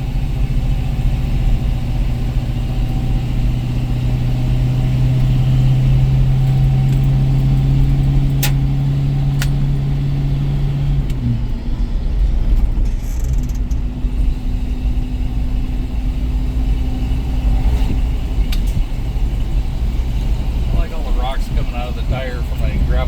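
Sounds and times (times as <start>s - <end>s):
car engine droning: 0.0s - 23.0s
road rumble: 0.0s - 23.0s.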